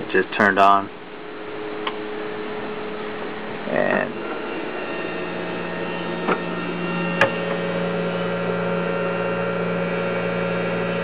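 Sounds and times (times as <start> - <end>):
pump and fans humming: 0.0 - 11.0.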